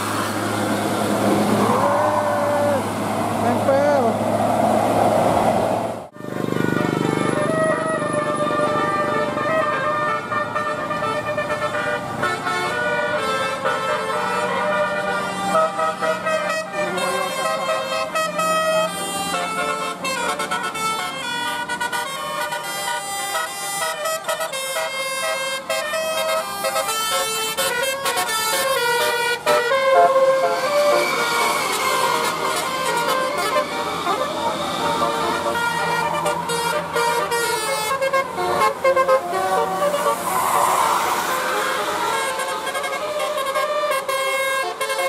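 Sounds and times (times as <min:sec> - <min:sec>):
musical bus air horns: 0:06.2 - 0:45.0.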